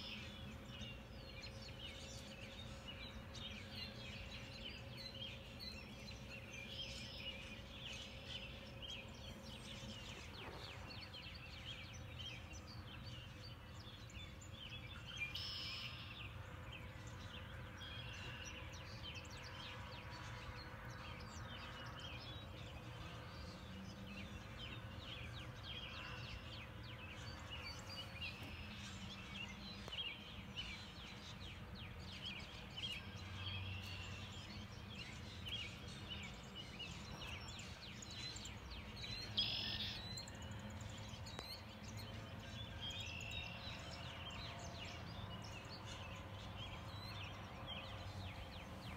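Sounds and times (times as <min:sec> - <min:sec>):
wild birds chirping: 0:00.0 - 0:48.9.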